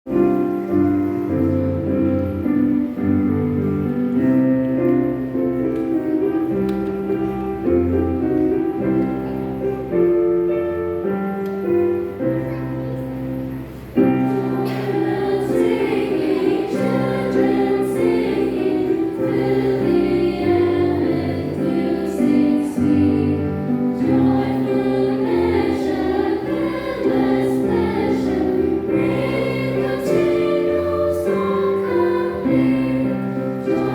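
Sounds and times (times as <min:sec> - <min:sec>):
children's choir singing a hymn: 0:00.1 - 0:33.9.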